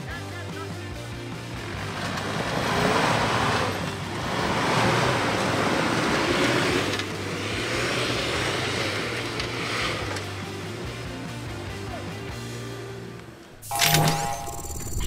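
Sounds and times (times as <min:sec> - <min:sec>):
truck engine revving: 0:00.0 - 0:12.8.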